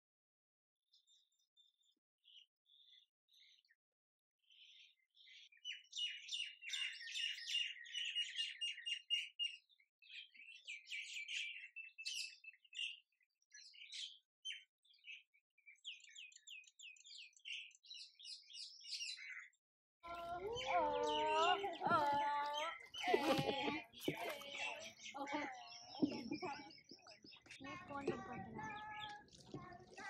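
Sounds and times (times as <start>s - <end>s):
small birds chirping: 0.9s - 3.8s, 4.4s - 30.0s.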